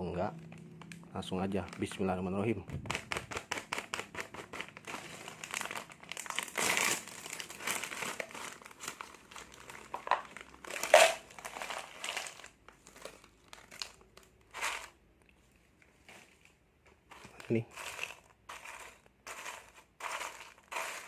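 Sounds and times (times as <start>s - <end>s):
plastic packet crinkling: 0.2s - 15.0s, 17.1s - 21.0s.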